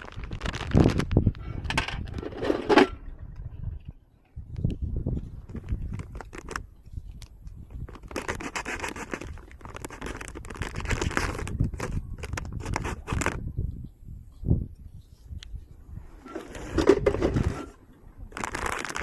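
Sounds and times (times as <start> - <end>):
rustling and scraping: 0.0 - 4.0, 4.6 - 13.4, 15.0 - 19.0.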